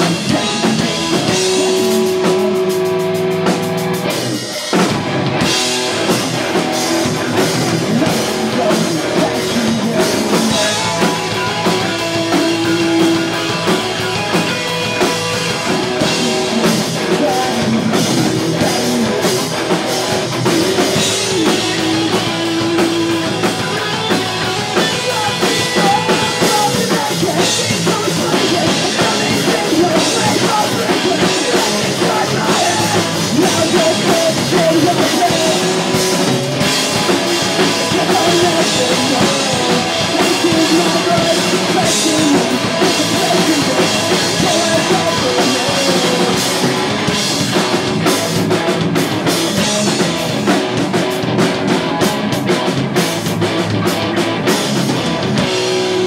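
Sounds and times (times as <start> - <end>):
pop-punk band playing live: 0.0 - 56.0.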